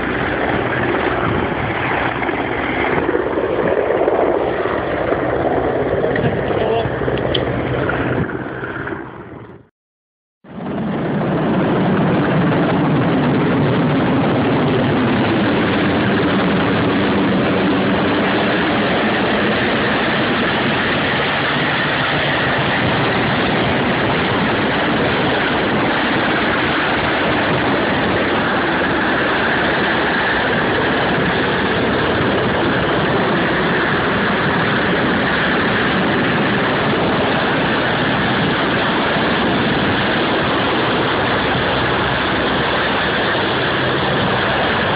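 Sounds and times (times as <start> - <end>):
helicopter engines and rotor: 0.0 - 9.7, 10.4 - 44.9.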